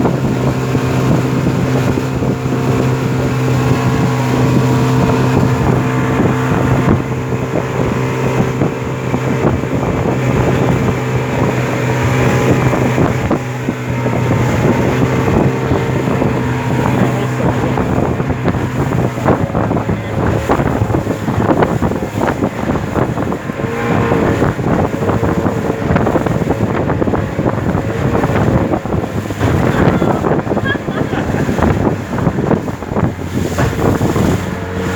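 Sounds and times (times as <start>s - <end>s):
motorboat engine running: 0.0s - 34.9s
water noise: 0.0s - 34.9s
wind buffeting microphone: 0.0s - 34.9s.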